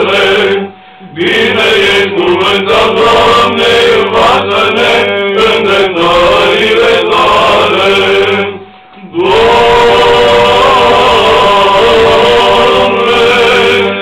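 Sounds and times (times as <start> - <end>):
male choir chanting: 0.0 - 14.0.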